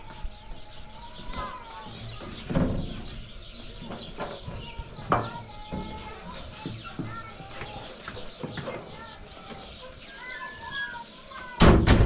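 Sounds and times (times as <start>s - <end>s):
farm animal calling: 0.0s - 11.6s
birds chirping: 0.0s - 12.0s
faint voices: 0.0s - 12.0s.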